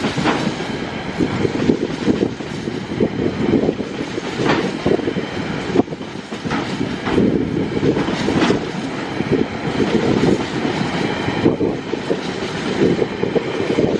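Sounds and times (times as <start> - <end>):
train wheels clacking over rail joints: 0.0 - 2.9, 3.5 - 13.9
train rumble: 0.0 - 13.9.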